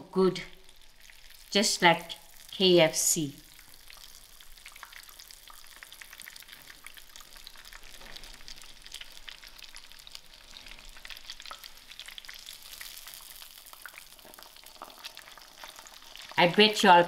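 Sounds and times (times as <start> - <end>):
chicken frying in oil: 0.1 - 17.0
oil crackling and popping: 0.3 - 2.6, 3.4 - 17.0.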